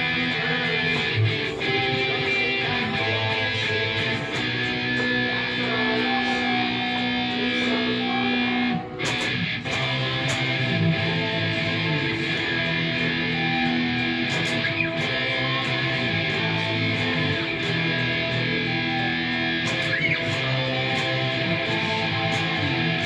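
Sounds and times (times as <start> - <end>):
electric guitar playing: 0.0 - 23.0
recorded live band song: 0.0 - 23.0.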